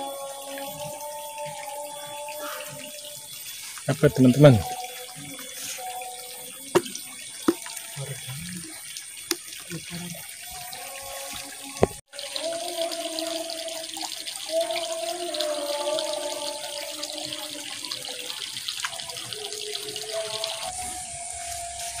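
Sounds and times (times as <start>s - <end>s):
water pouring into pond: 0.0s - 22.0s.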